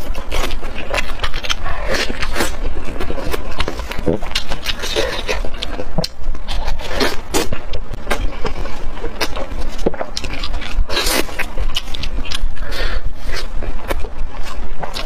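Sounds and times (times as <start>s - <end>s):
chewing and lip-smacking: 0.0s - 15.0s
steady low hum: 0.0s - 15.0s.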